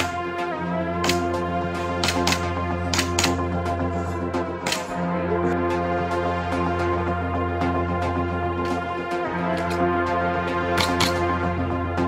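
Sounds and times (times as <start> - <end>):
held synth chords: 0.0 - 12.0.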